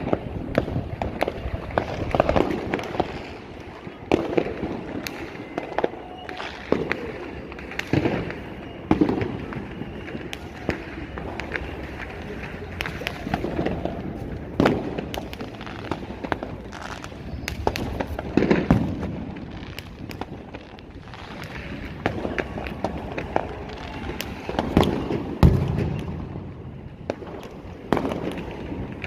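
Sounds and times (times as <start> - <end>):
fireworks cracking and banging: 0.0 - 29.0.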